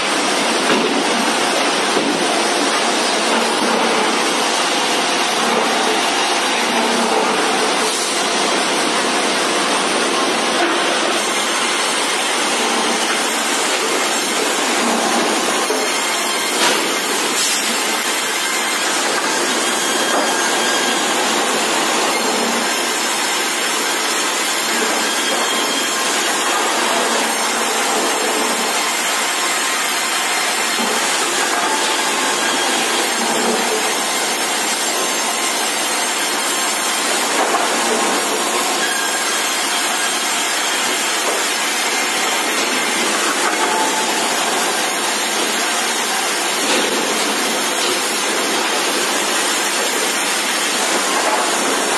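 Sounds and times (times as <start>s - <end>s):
sawmill saw cutting timber: 0.0s - 51.9s.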